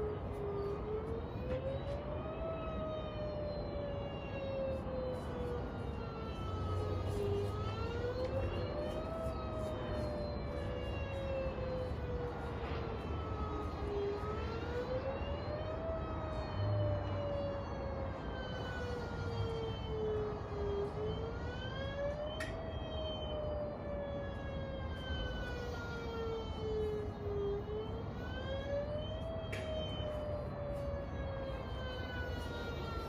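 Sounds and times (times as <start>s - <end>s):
distant siren wailing: 0.0s - 33.0s.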